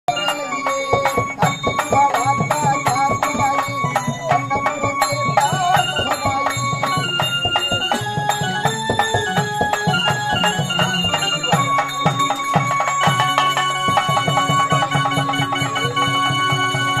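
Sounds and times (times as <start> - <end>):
steady percussion beat: 0.1 - 17.0
wavering melody: 0.1 - 17.0.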